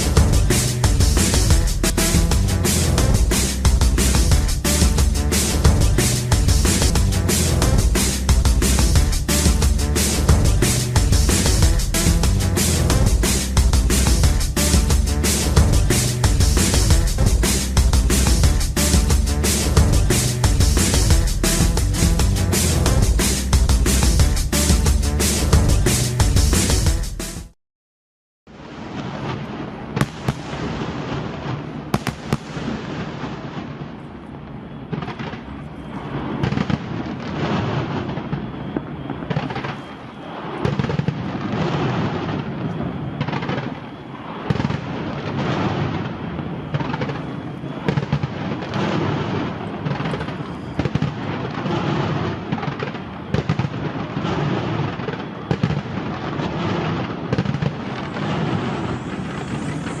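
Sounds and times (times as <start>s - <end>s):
sharp firework bangs: 0.0s - 26.7s, 28.7s - 34.1s, 34.8s - 60.0s
firework shell bursts and booms: 0.0s - 27.0s, 28.9s - 34.0s, 34.9s - 60.0s
fireworks crackling: 0.0s - 27.6s, 28.6s - 60.0s.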